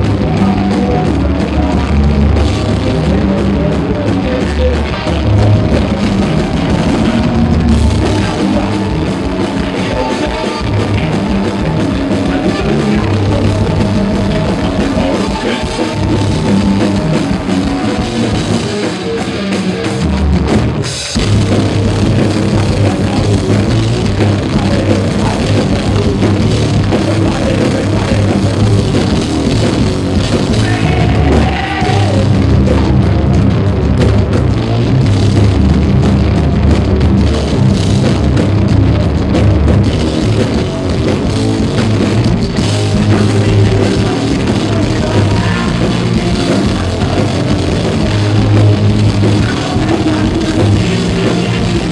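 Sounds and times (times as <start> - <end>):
live metal band playing: 0.0 - 51.9.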